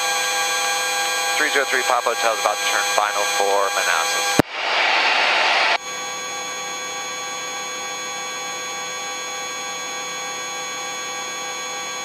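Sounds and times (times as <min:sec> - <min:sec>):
helicopter turbine whine: 0:00.1 - 0:12.0.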